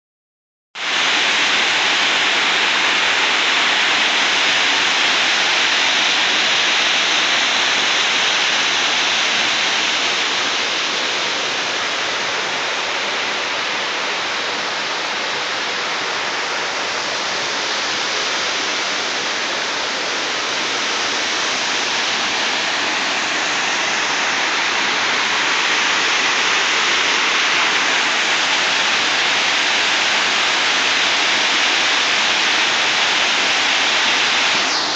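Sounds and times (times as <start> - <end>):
waterfall rushing into a pool: 0.8 - 34.9.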